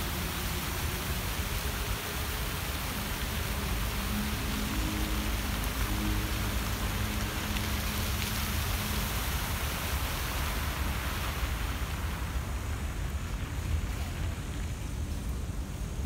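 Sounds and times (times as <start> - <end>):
faint music: 0.0 - 16.0
fountain water splashing: 0.0 - 16.0.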